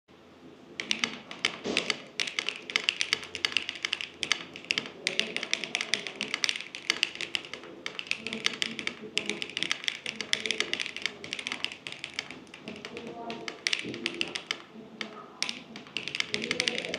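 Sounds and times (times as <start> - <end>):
mechanical keyboard keystroke clacks: 0.8 - 16.9.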